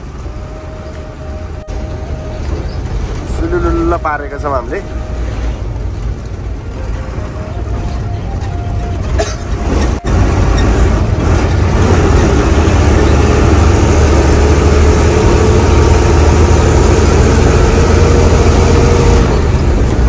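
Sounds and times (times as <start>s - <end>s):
engine whine: 0.0s - 20.0s
truck diesel engine running: 0.0s - 20.0s.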